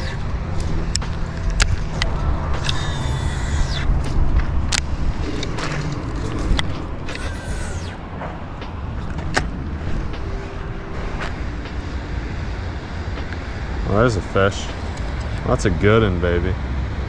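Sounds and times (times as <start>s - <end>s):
highway traffic rumble: 0.0s - 17.0s
vehicle passing by: 0.0s - 17.0s.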